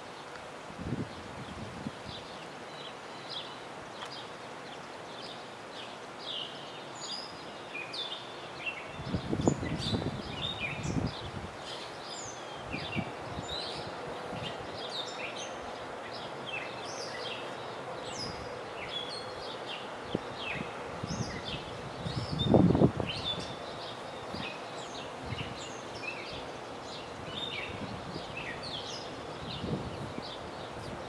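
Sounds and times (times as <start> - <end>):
steady background hiss: 0.0 - 31.0
small birds chirping: 0.1 - 31.0.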